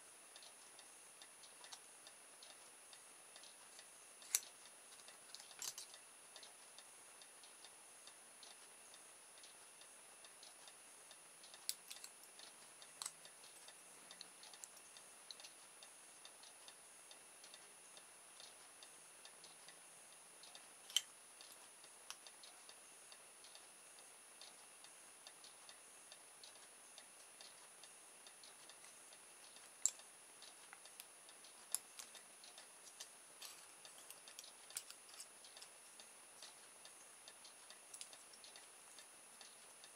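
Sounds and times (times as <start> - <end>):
faint high-pitched whine: 0.0 - 39.9.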